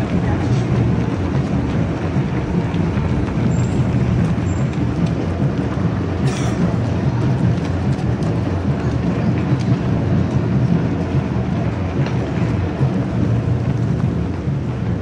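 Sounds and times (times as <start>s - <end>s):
runners' footsteps on road: 0.0s - 15.0s
steady low rumble: 0.0s - 15.0s.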